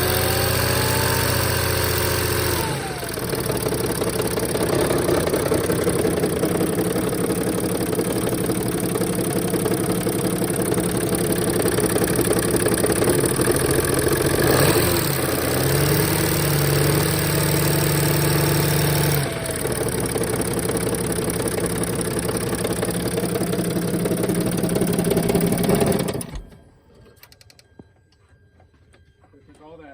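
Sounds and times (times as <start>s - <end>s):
diesel engine knocking and chatter: 0.0s - 26.3s.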